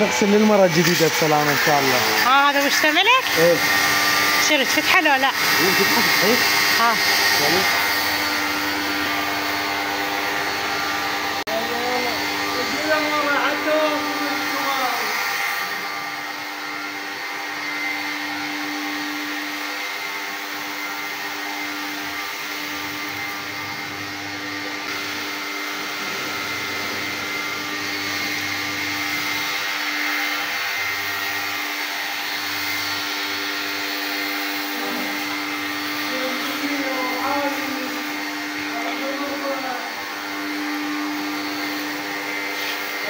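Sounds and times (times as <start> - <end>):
vacuum cleaner motor running: 0.0 - 43.0.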